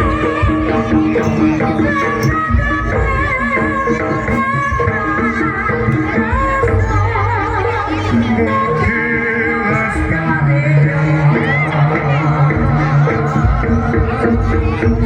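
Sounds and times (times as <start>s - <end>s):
drumming: 0.0s - 15.0s
ornamented melody line: 0.0s - 15.0s.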